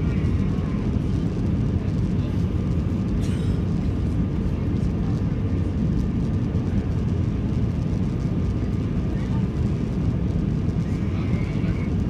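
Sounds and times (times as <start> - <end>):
faint steady whine: 0.0 - 12.0
jet engines rumbling: 0.0 - 12.0.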